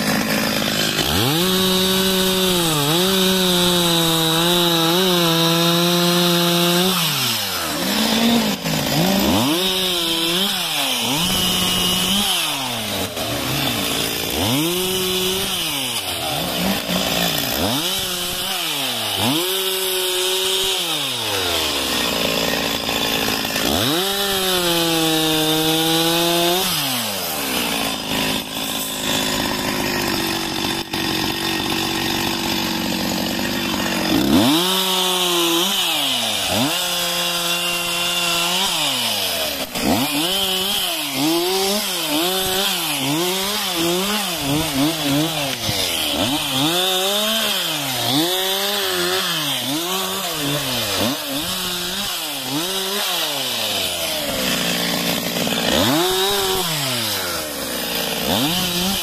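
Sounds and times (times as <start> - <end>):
chainsaw revving and cutting: 0.0 - 59.0.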